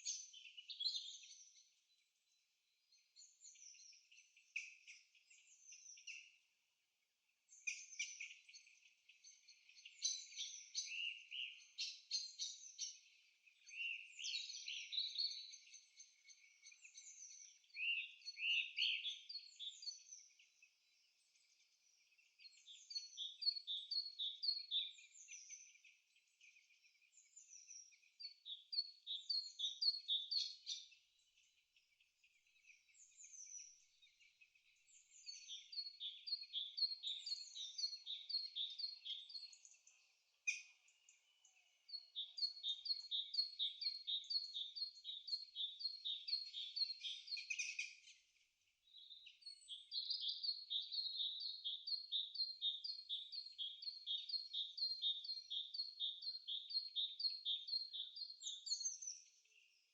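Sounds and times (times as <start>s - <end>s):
bird chirping: 0.0s - 6.7s, 7.3s - 59.9s.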